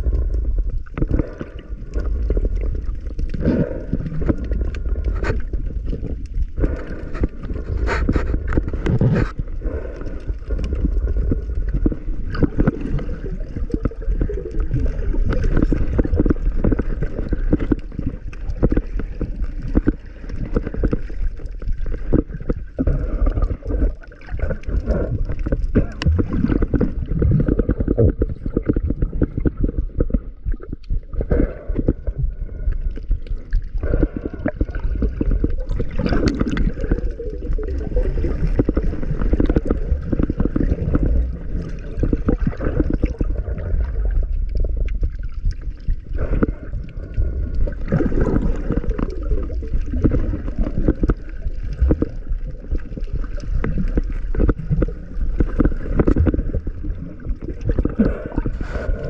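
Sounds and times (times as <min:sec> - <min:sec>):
crackling clicks: 0:00.0 - 0:58.9
muffled water sloshing: 0:00.0 - 0:59.0.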